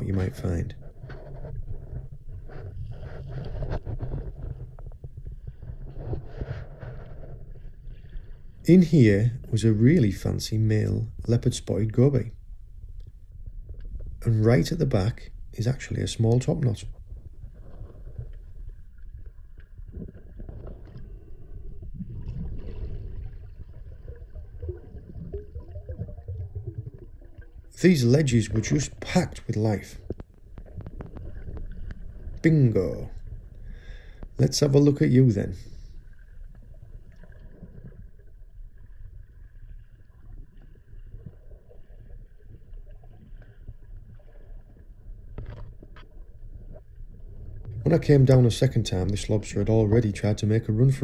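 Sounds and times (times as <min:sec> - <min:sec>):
underwater gurgles: 0:00.0 - 0:51.0
underwater low rumble: 0:00.0 - 0:51.0.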